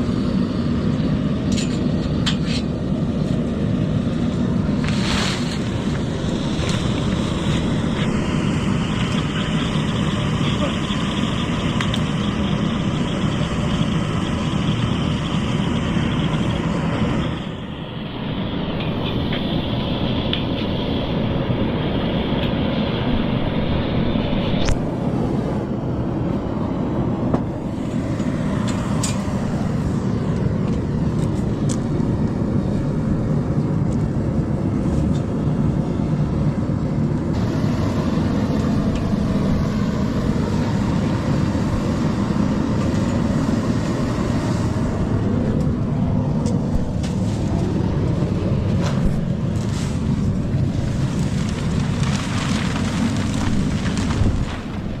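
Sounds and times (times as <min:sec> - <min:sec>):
machinery running loudly: 0:00.0 - 0:55.0.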